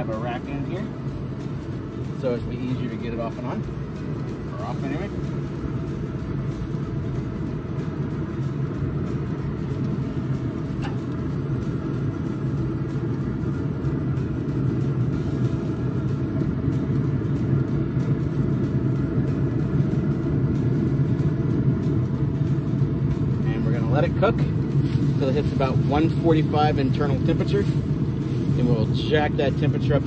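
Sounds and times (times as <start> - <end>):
smoker fan humming: 0.0 - 30.0.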